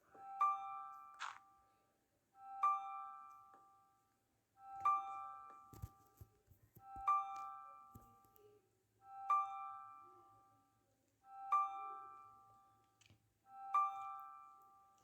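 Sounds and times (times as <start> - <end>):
soft piano chords: 0.0 - 12.8.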